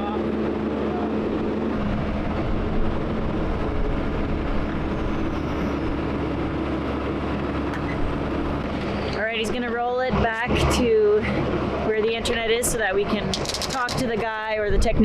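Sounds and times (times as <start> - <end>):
excavator engine running: 0.0 - 14.8.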